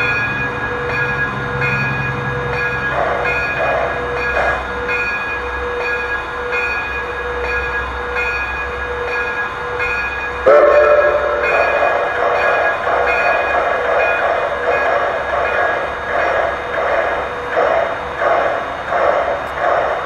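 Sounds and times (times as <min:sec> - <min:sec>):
model steam locomotive pulsing hiss: 0:00.0 - 0:20.0.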